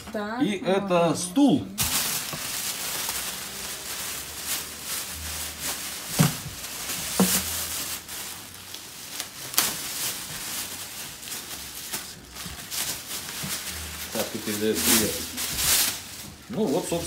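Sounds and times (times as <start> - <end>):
plastic bag rustling and crinkling: 1.8 - 17.0.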